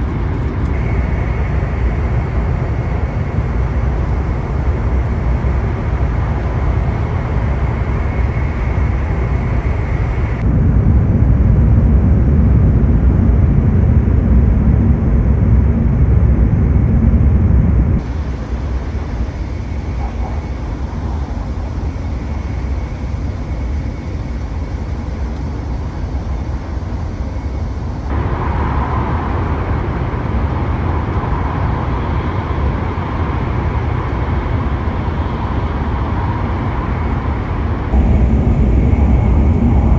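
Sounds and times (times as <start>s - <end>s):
train rumble inside cabin: 0.0s - 39.9s.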